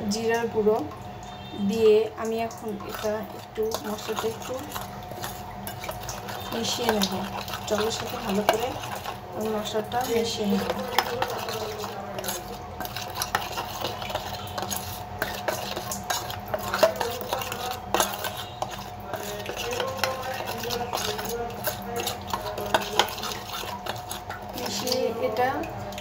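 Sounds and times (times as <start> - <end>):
spoon clinking and scraping bowl: 1.3 - 26.0.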